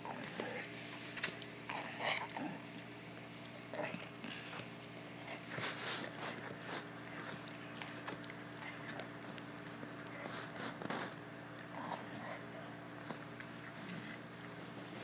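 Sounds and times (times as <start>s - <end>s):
dog chewing on a ball: 1.4s - 15.0s.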